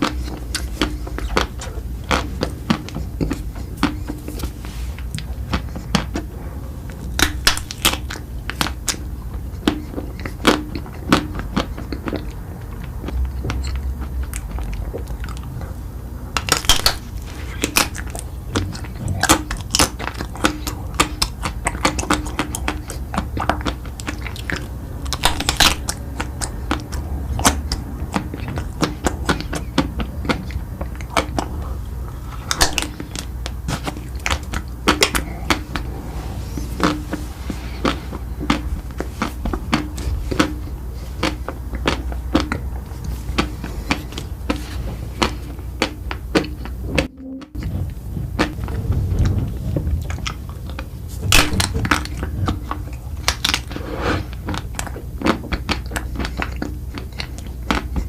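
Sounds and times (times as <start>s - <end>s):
chewing crunchy food: 0.0s - 58.0s
low steady hum: 0.0s - 58.0s.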